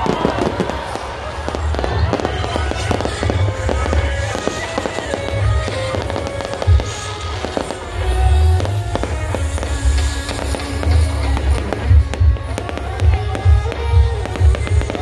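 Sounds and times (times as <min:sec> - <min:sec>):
background music: 0:00.0 - 0:15.0
fireworks booming and crackling: 0:00.0 - 0:15.0.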